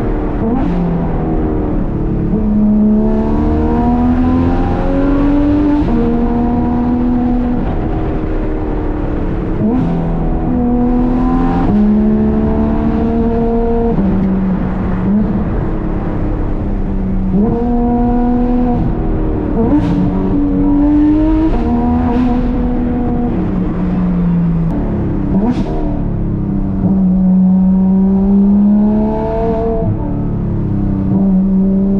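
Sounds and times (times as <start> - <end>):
sports car exhaust revving: 0.0 - 31.9.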